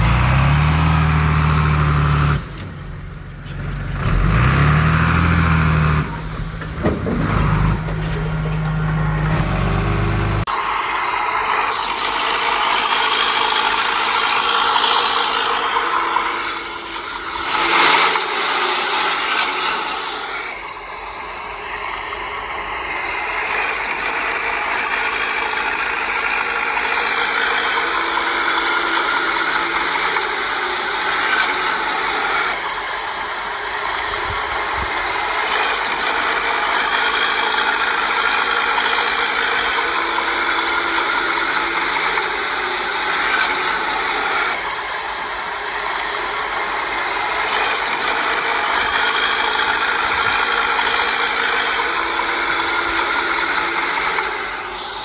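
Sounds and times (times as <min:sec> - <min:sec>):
crawler tracks clanking: 0:00.0 - 0:10.5, 0:11.4 - 0:55.0
bulldozer diesel engine running: 0:00.0 - 0:55.0.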